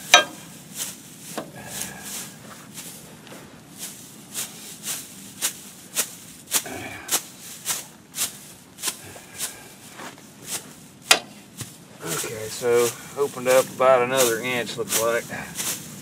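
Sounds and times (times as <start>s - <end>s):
weeds being chopped by hand: 0.0s - 3.0s, 3.8s - 16.0s.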